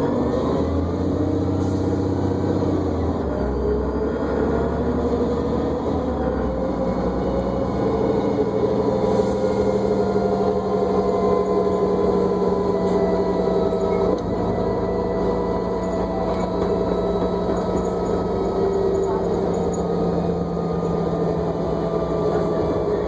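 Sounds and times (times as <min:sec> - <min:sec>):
bus drivetrain whining: 0:00.0 - 0:23.0
low engine rumble: 0:00.0 - 0:23.0.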